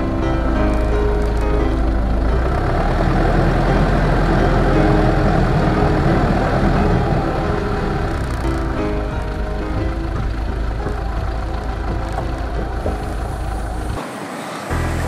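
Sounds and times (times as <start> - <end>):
background music: 0.0 - 15.0
vehicle engine rumbling: 0.0 - 15.0.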